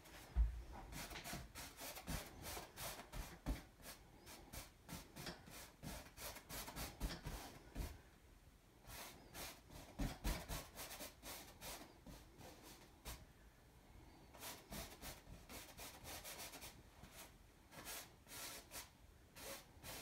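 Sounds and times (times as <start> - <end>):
paintbrush scrubbing canvas: 0.0 - 8.0, 8.9 - 13.2, 14.4 - 20.0.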